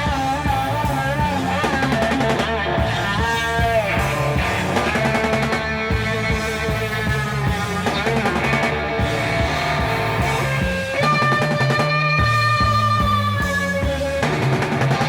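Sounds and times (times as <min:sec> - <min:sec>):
bass and drums: 0:00.0 - 0:15.0
electric guitar lead notes: 0:00.0 - 0:15.0.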